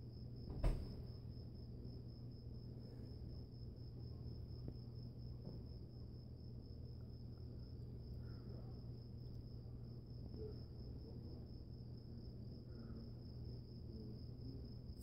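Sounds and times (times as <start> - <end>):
crickets trilling: 0.0 - 15.0
low steady hum: 0.0 - 15.0.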